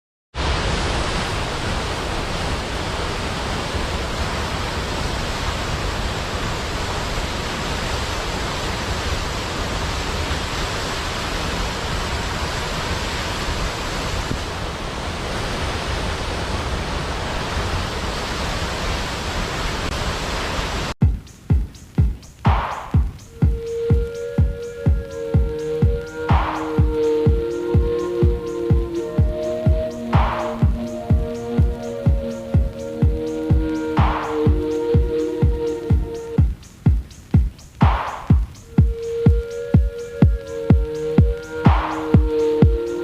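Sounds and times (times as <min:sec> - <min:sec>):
waterfall rushing roar: 0:00.4 - 0:20.9, 0:22.4 - 0:36.7, 0:37.8 - 0:43.0.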